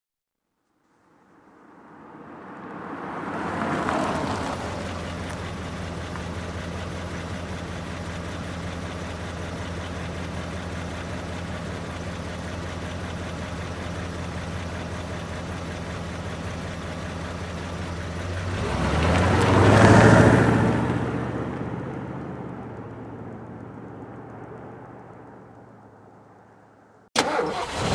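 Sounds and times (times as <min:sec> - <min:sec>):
car engine revving: 0:01.4 - 0:26.1
car engine idling: 0:03.3 - 0:27.9.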